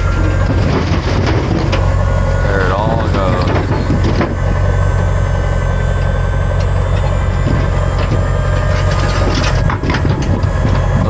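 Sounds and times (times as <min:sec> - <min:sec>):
faint steady whine: 0:00.0 - 0:11.0
truck engine droning: 0:00.0 - 0:11.0.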